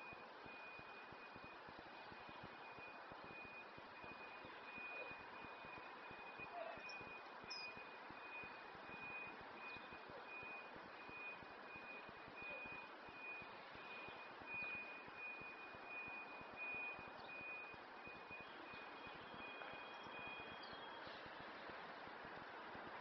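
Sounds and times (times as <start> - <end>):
high electronic beeps: 2.2 - 21.1.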